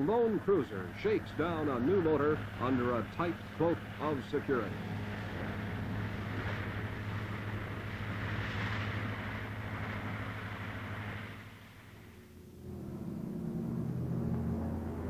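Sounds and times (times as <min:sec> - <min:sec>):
outboard motor running: 0:00.0 - 0:15.0
water rushing: 0:00.0 - 0:15.0.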